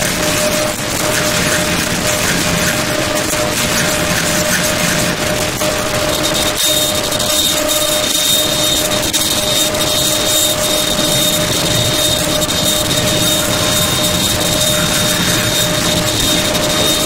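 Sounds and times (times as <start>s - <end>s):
harsh noise music hiss and crackle: 0.0s - 17.0s
high whine: 0.0s - 17.0s
sustained mid-pitched tone: 0.2s - 17.0s.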